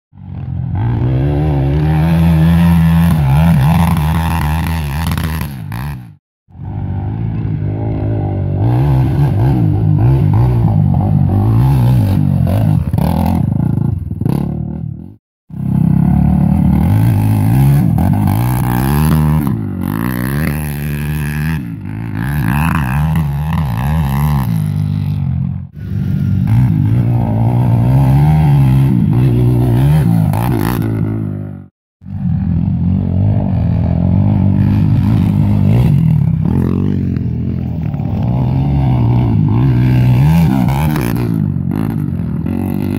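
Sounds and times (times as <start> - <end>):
quad engines revving: 0.2 - 42.9.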